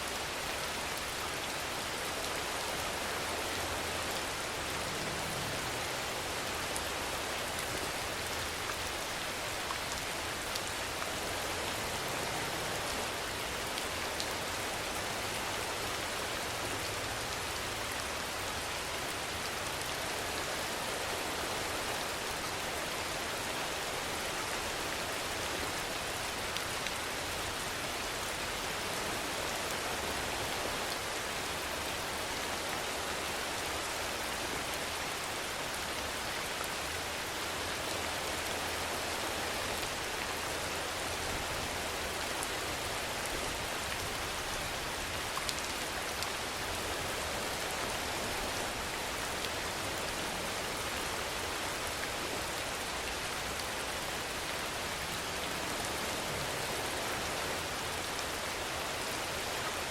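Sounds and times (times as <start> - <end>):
rain on a surface: 0.0 - 59.9.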